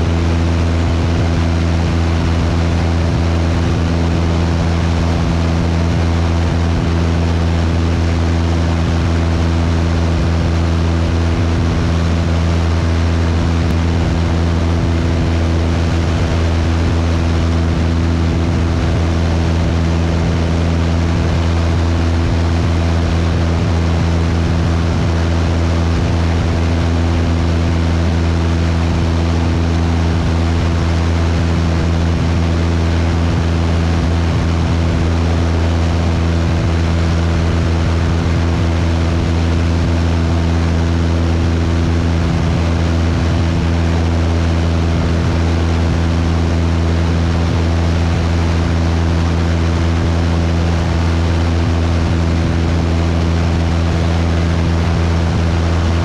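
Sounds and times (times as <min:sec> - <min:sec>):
airplane engine and propeller droning: 0:00.0 - 0:56.0.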